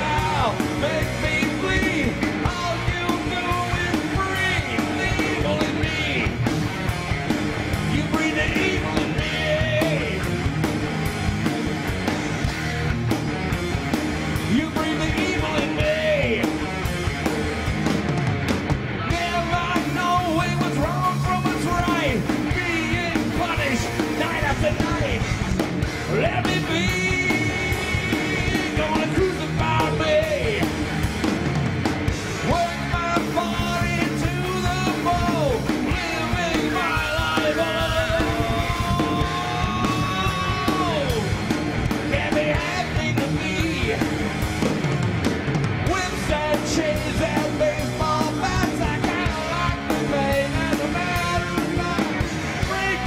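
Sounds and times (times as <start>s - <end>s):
heavy metal band playing live: 0.0s - 53.0s.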